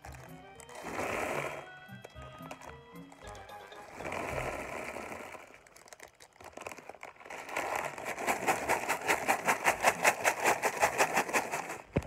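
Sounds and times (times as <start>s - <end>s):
plastic pieces rattling in bag: 0.0s - 12.0s.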